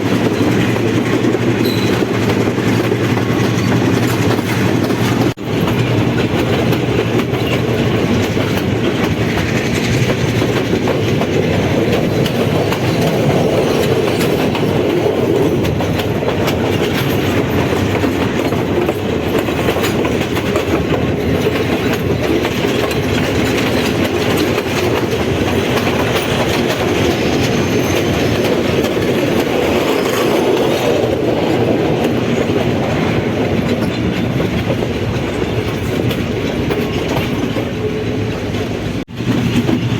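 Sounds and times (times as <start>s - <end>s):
train rumbling: 0.0s - 39.9s
wheels clattering over rails: 0.0s - 39.9s.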